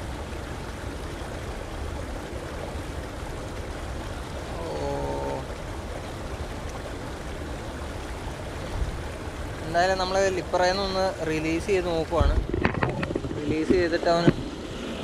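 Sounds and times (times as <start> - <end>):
shallow river water trickling: 0.0 - 15.0.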